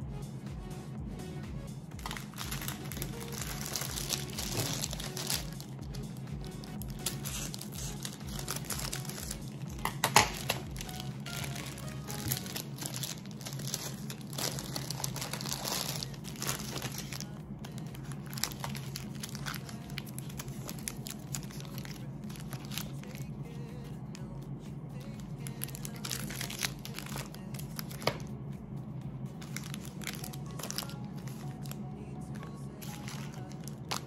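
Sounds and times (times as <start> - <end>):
plastic wrappers crinkling: 2.0 - 23.3, 25.4 - 28.3, 29.4 - 31.8, 32.7 - 34.0.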